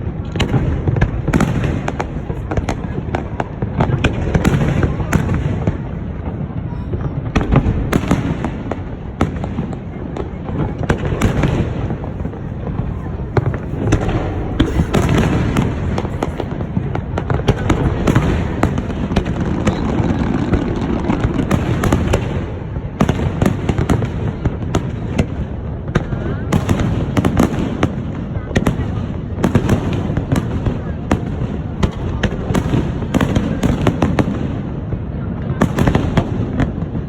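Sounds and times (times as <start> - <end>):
fireworks bangs and crackles: 0.0 - 37.0
low rumble of fireworks: 0.0 - 37.0.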